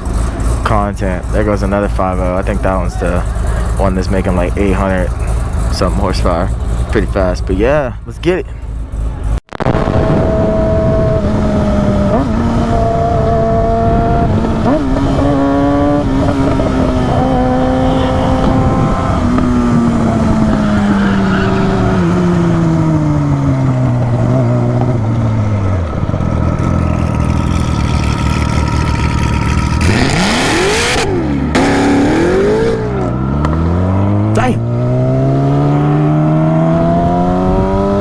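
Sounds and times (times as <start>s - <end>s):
engine low rumble: 0.0s - 38.0s
engine revving: 0.0s - 38.0s
engine running hard: 0.0s - 38.0s.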